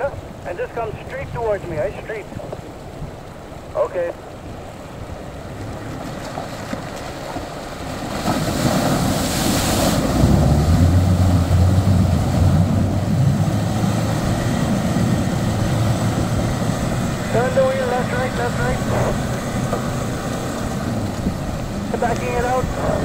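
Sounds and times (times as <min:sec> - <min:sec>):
water rushing and splashing: 0:00.0 - 0:23.0
engine droning under load: 0:02.2 - 0:23.0.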